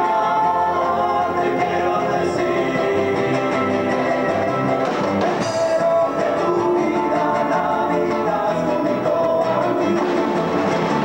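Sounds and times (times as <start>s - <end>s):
hand drums beat: 0.0s - 11.0s
people singing: 0.0s - 11.0s
strummed guitar: 0.0s - 11.0s.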